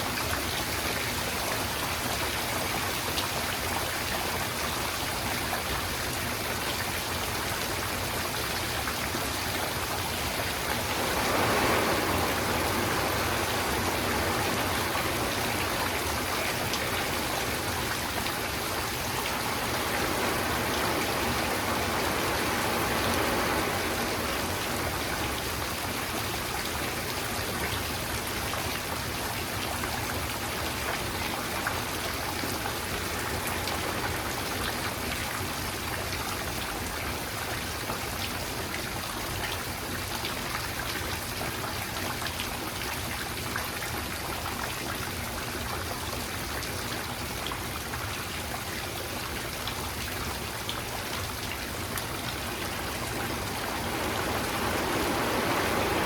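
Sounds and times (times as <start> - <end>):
steady rainfall: 0.0 - 56.0
raindrops ticking on surfaces: 0.1 - 56.0.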